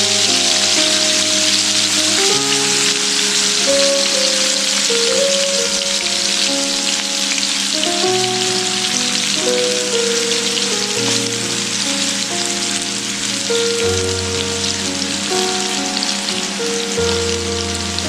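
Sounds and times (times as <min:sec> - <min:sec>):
background music: 0:00.0 - 0:18.0
chicken sizzling in hot oil: 0:00.0 - 0:18.0.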